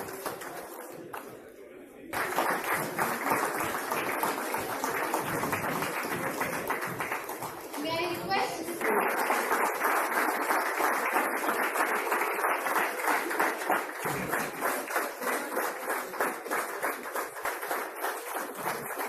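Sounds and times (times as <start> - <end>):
audience applauding: 0.0 - 1.3, 2.1 - 19.0.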